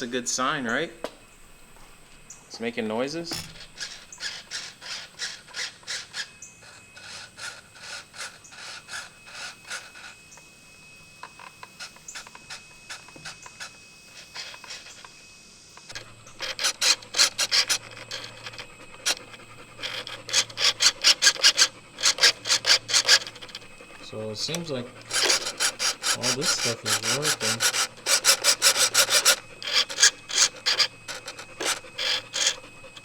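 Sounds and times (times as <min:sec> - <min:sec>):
servos whirring: 0:02.2 - 0:33.0.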